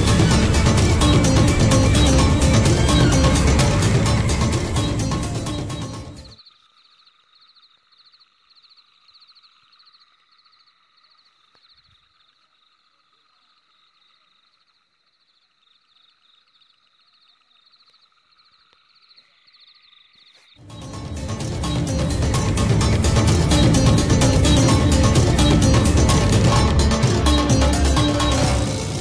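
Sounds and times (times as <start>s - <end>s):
distant animal chorus: 0.0s - 29.0s.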